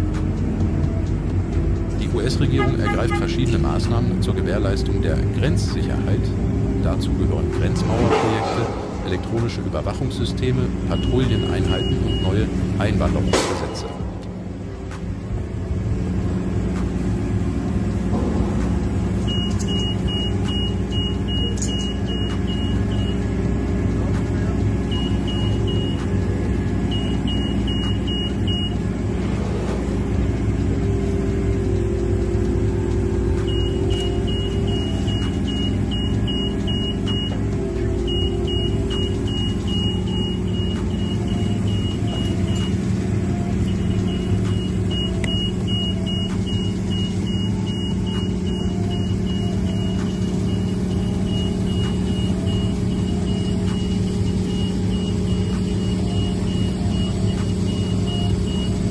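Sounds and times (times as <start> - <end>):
heavy diesel engine running: 0.0 - 58.9
reversing alarm beeping: 2.0 - 14.5, 15.3 - 58.9.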